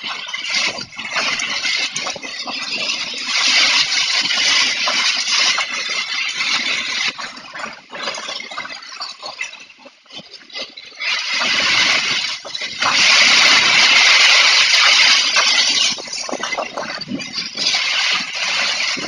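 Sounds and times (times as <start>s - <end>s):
heavy wind-driven rain: 0.0s - 8.5s, 11.0s - 19.0s.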